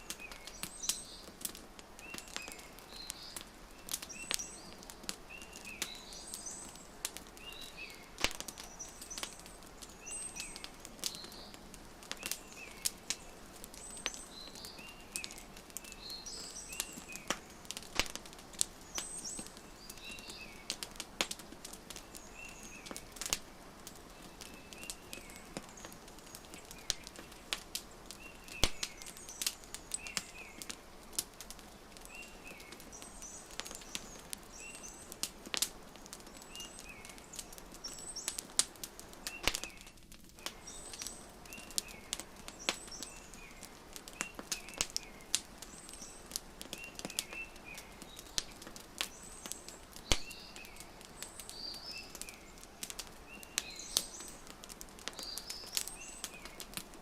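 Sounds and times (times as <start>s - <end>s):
small birds chirping: 0.0s - 57.0s
wood fire crackling and popping: 0.0s - 57.0s.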